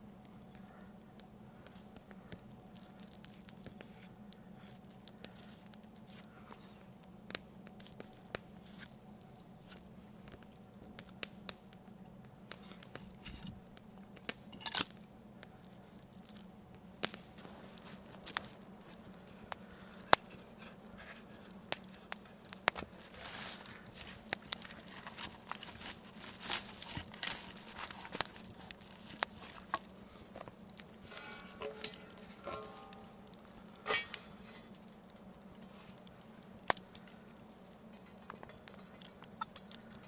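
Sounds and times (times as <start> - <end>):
faint steady hum: 0.0 - 40.0
small clicks and crackles: 0.0 - 40.0
crinkling rustle: 0.2 - 11.2, 11.9 - 40.0.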